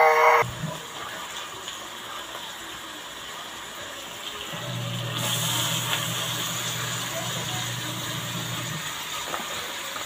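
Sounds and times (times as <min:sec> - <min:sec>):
oil sizzling in a wok: 0:00.1 - 0:10.0.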